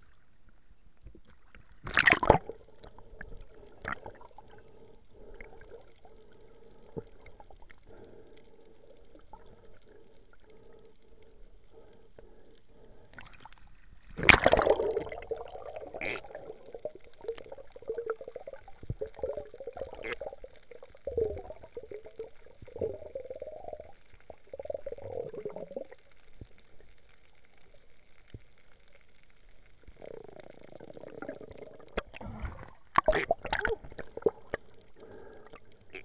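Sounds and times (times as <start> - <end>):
underwater gurgling and bubbling: 1.4 - 27.8, 29.7 - 36.0.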